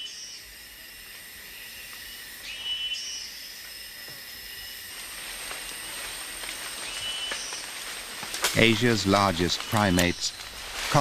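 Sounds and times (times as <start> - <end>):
insect chirring trill: 0.0 - 11.0
insects droning: 0.0 - 11.0.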